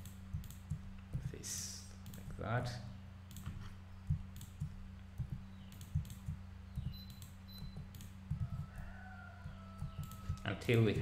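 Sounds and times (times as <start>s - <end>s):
keyboard and mouse clicks: 0.0s - 1.4s, 2.0s - 2.4s, 3.3s - 11.0s
steady low hum: 0.0s - 11.0s.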